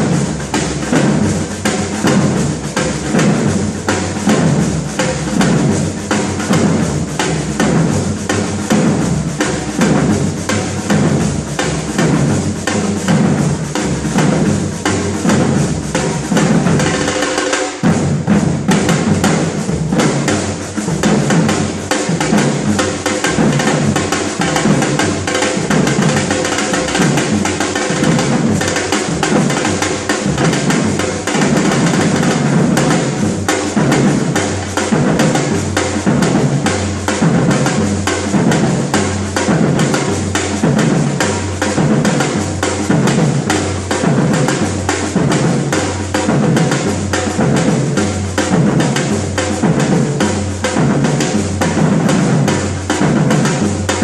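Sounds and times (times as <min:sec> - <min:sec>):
deep bass drum beat: 0:00.0 - 0:17.2, 0:17.8 - 0:54.0
drum ensemble playing: 0:00.0 - 0:54.0.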